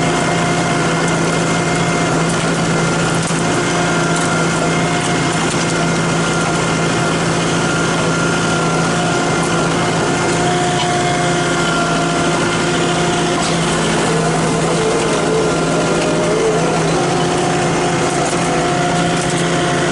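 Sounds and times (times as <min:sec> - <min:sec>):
road and rattle noise: 0:00.0 - 0:19.9
small engine running: 0:00.0 - 0:19.9.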